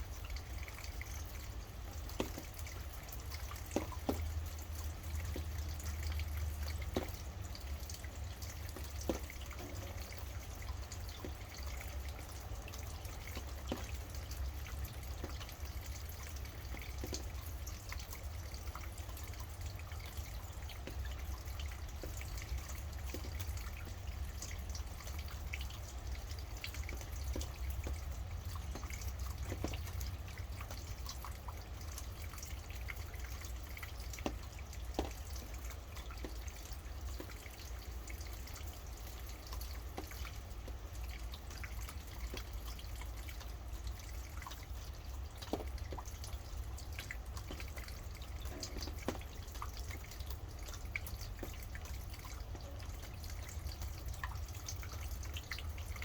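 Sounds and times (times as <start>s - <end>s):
rain dripping: 0.0s - 56.0s.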